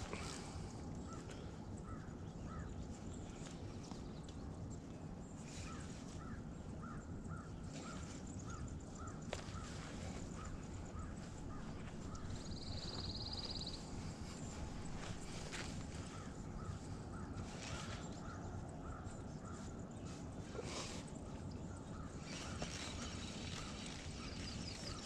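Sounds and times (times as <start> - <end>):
low background rush: 0.0 - 25.0.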